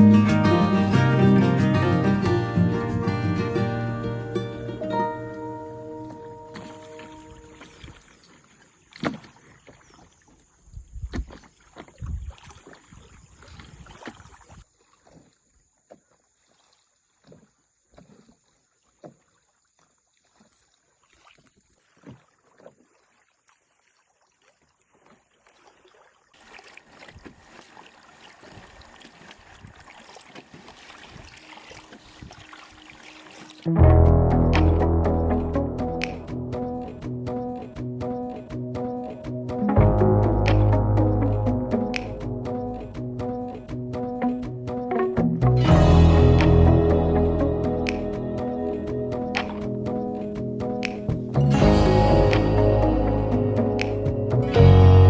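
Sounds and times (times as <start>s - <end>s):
water drips and small splashes: 6.2s - 33.7s, 34.5s - 54.7s.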